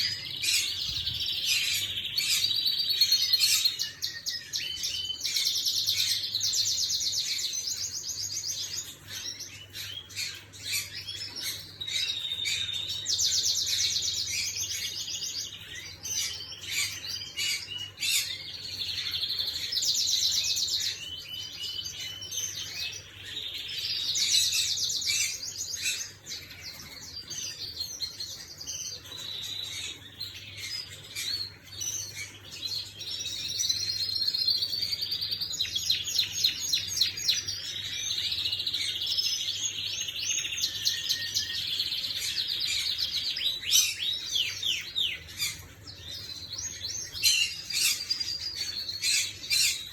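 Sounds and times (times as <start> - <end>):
canary chirps: 0.0 - 49.9
canary trilling song: 0.0 - 49.9.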